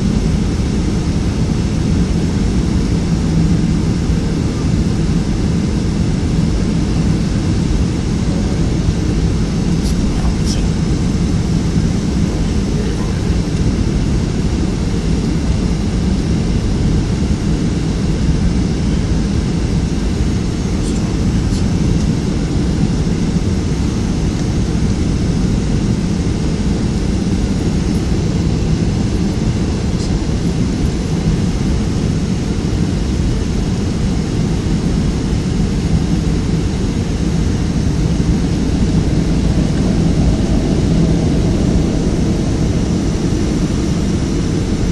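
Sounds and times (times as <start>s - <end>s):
jet engines roaring: 0.0s - 44.9s
rushing air in cabin: 0.0s - 44.9s.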